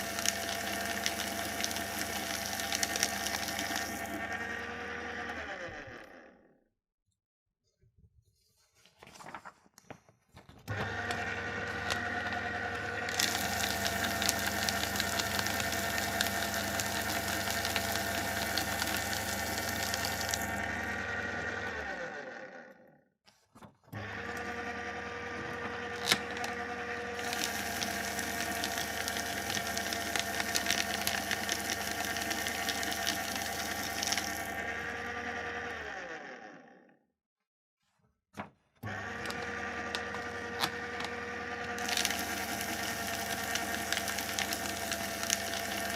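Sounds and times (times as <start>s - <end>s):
electric paper shredder: 0.0s - 6.5s, 10.6s - 23.0s, 23.8s - 37.0s, 38.8s - 45.9s.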